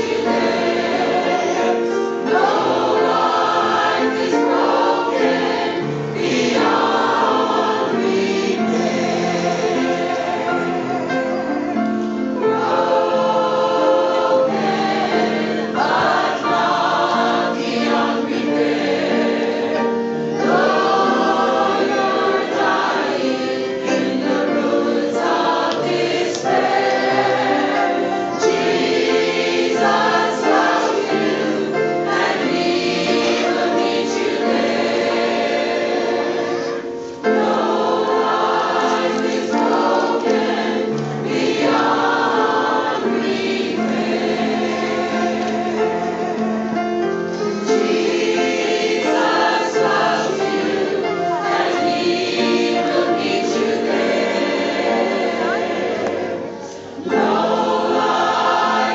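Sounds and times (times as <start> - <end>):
choir singing gospel harmony: 0.0 - 58.9.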